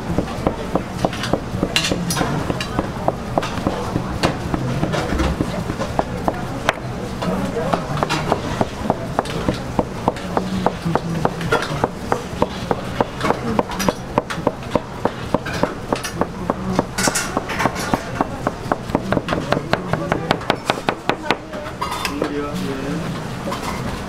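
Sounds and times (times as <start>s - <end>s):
knife chopping on wooden board: 0.2s - 6.9s, 7.7s - 21.4s.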